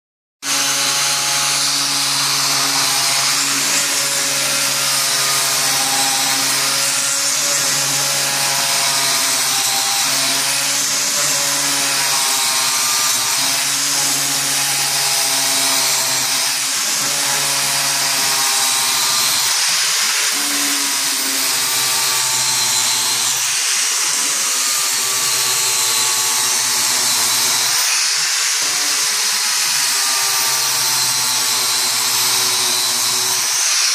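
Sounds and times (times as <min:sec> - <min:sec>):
angle grinder grinding metal: 0:00.4 - 0:33.9.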